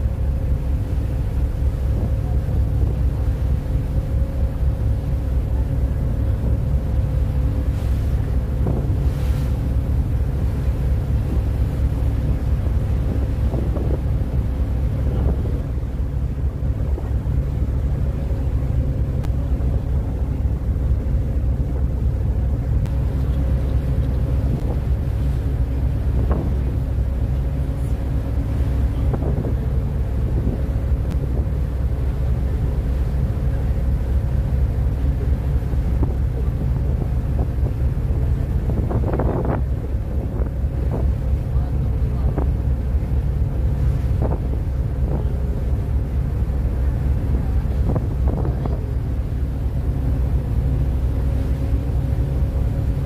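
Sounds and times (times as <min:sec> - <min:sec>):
ferry engine drone: 0:00.0 - 0:53.0
wind buffeting microphone: 0:00.0 - 0:53.0.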